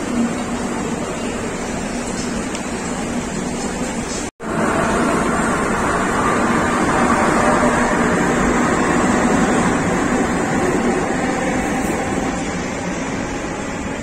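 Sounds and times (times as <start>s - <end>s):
metro train rumbling: 0.0s - 14.0s.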